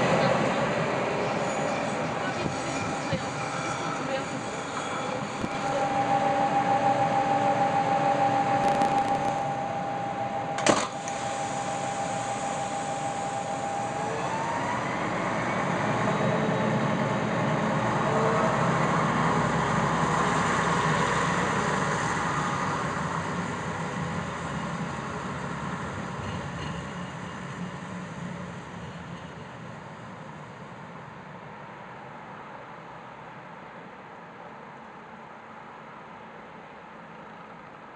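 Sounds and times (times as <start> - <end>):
train high squeal: 0.0 - 30.7
train whine and rumble: 0.0 - 37.9.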